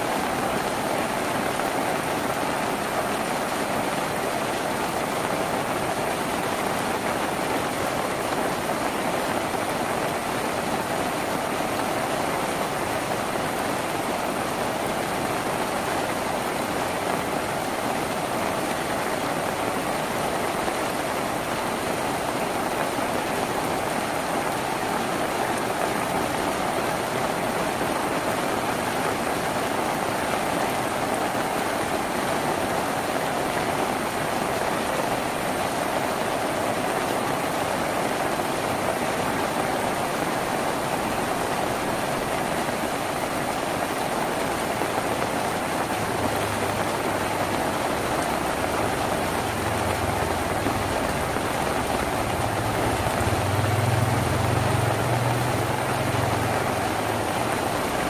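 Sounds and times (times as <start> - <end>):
rain drumming on a tin roof: 0.0 - 58.0.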